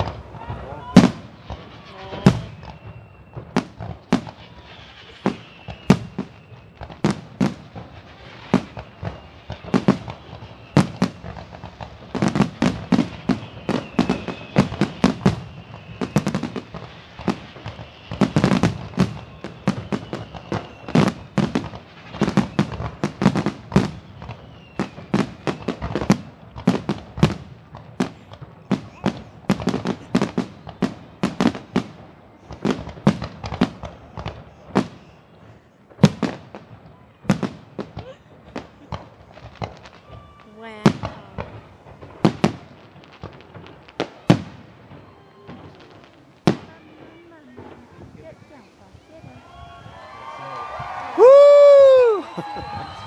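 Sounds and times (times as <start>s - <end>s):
fireworks bangs and crackles: 0.0s - 53.0s
fireworks whistling: 0.0s - 53.0s.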